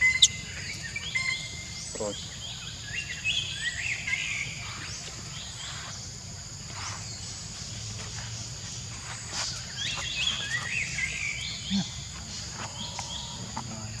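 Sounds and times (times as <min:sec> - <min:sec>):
insects droning high-pitched: 0:00.0 - 0:14.0.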